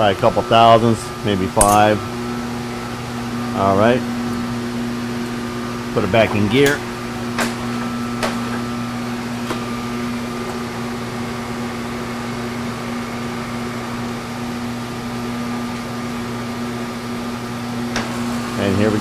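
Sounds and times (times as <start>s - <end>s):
machine tool humming: 0.0s - 19.0s.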